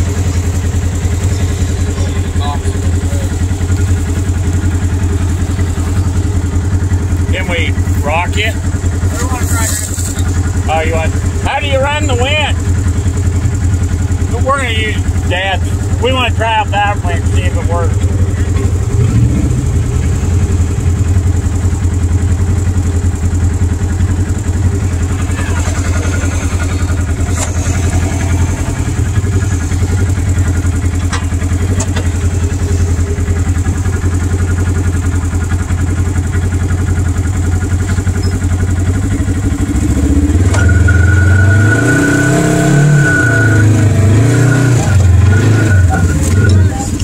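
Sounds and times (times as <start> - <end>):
engine idling and revving: 0.0 - 47.0.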